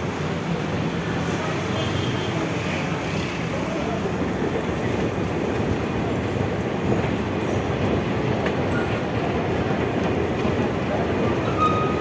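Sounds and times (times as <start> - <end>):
train rumbling and rattling: 0.0 - 12.0.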